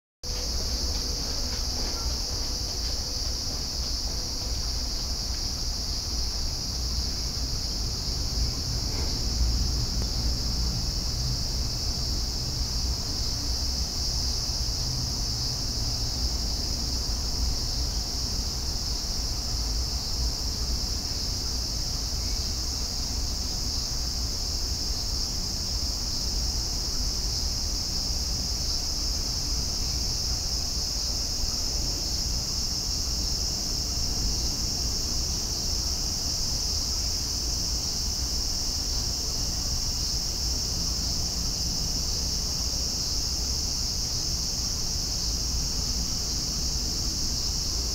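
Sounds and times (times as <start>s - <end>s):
insects chorus shrill drone: 0.3s - 47.9s.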